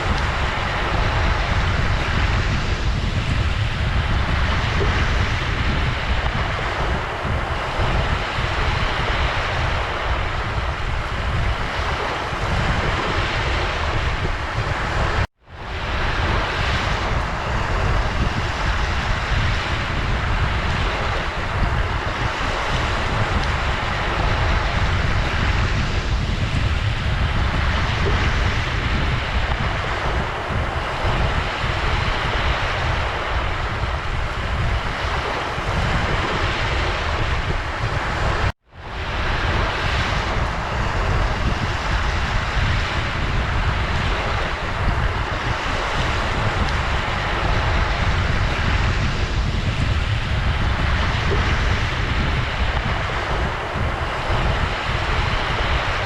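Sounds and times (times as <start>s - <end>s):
heavy low rumble: 0.0s - 56.0s
waves washing onto shore: 0.0s - 56.0s
wind buffeting microphone: 0.0s - 56.0s.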